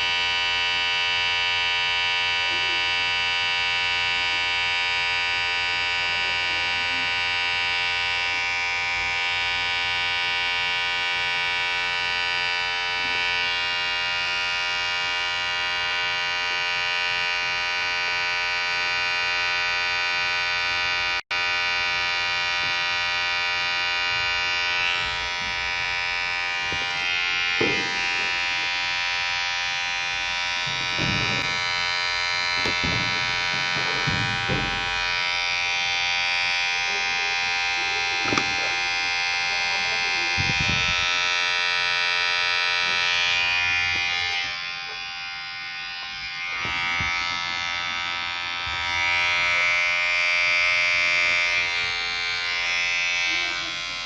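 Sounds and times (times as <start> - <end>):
electric hair clipper buzzing: 0.0 - 54.0.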